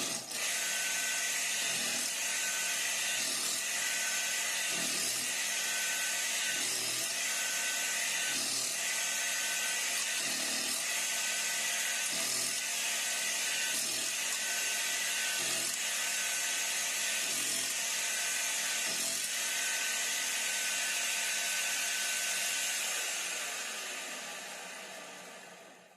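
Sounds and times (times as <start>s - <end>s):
coconut grater whining: 0.0s - 25.8s.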